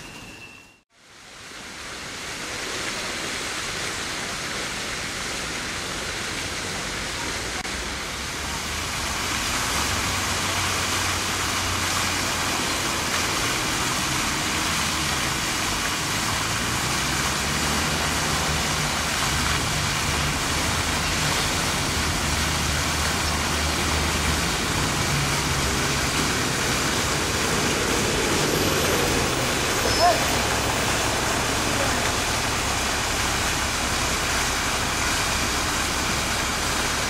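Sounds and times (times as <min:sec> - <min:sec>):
fountain water splashing: 0:01.0 - 0:37.0.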